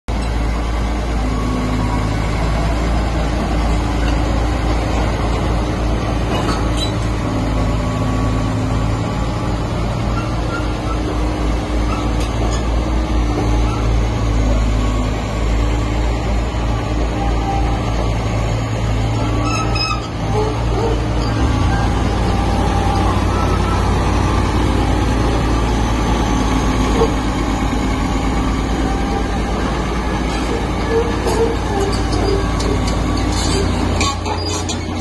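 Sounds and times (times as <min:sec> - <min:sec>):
bulldozer diesel engine: 0:00.1 - 0:35.0.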